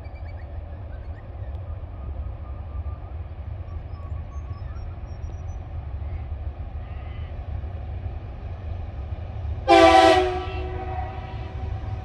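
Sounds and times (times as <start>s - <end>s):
distant locomotive rumble: 0.0s - 12.0s.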